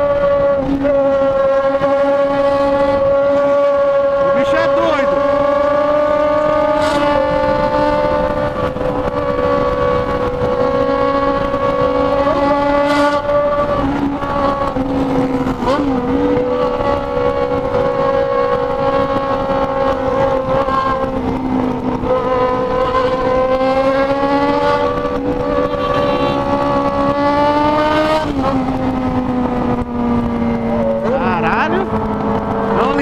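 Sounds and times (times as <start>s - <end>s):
motorcycle engine revving high: 0.0s - 33.0s
wind noise on microphone: 0.0s - 33.0s.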